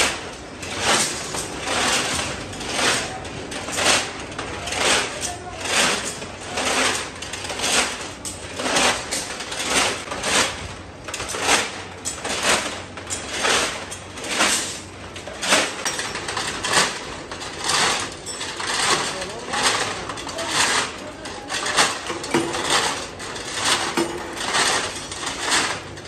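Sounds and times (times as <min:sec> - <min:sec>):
steel rods clattering and scraping: 0:00.0 - 0:26.0.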